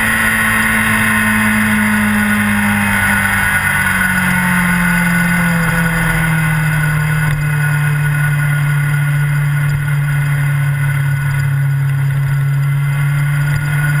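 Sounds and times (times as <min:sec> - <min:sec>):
motorcycle engine at steady revs: 0:00.0 - 0:14.0.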